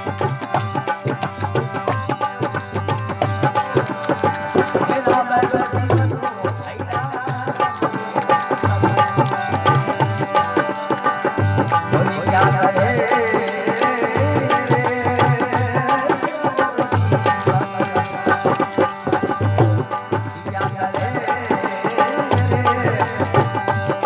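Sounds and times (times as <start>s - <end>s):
hand drums: 0.0s - 24.0s.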